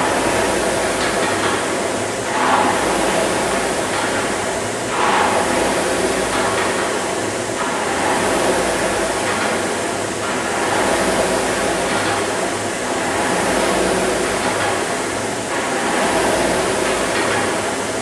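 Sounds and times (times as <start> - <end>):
rowing machine flywheel whirring: 0.0 - 18.0.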